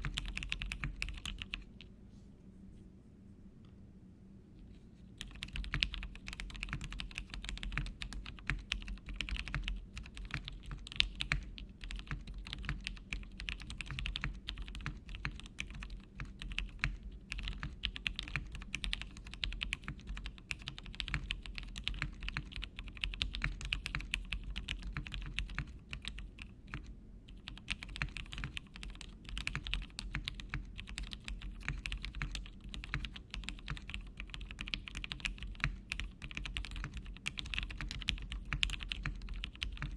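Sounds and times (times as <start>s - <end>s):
mechanical keyboard typing: 0.0s - 1.8s, 5.2s - 39.9s.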